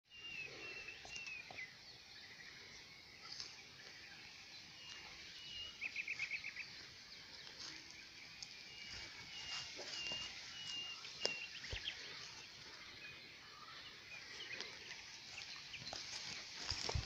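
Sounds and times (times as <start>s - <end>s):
songbirds whistling: 0.1s - 17.0s.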